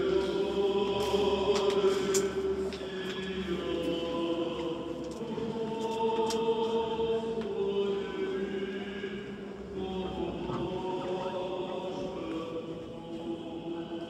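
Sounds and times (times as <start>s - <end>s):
choir chanting a cappella: 0.0s - 14.0s.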